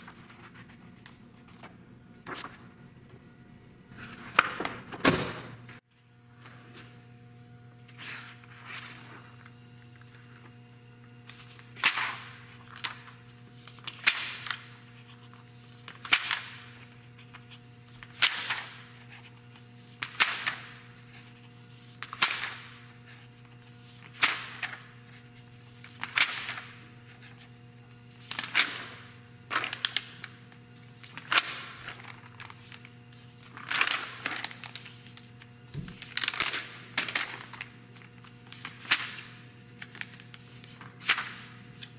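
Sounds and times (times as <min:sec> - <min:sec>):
magazine pages turning: 0:00.0 - 0:02.6, 0:07.9 - 0:41.9.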